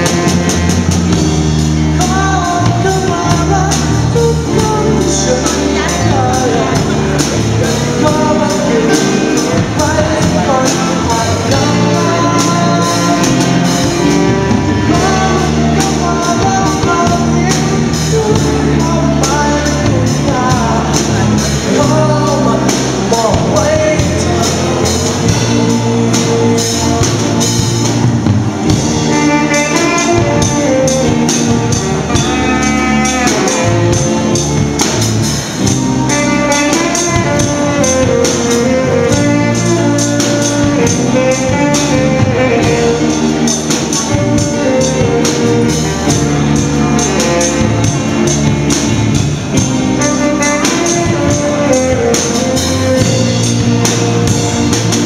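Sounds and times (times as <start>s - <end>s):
lead singer: 0.0s - 55.0s
live rock band playing: 0.0s - 55.0s
saxophone melody: 0.0s - 55.0s.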